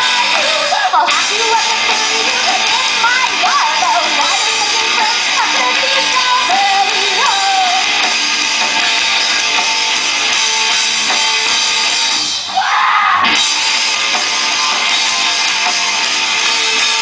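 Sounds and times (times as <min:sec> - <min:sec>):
bending guitar tone: 0:00.0 - 0:12.6, 0:13.2 - 0:17.0
distorted electric guitar: 0:00.0 - 0:17.0
drums: 0:00.0 - 0:17.0
rock band playing: 0:00.0 - 0:17.0.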